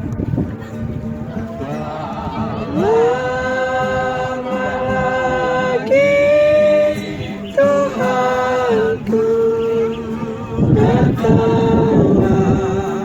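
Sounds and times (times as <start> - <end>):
voices singing long notes: 0.0 - 13.0.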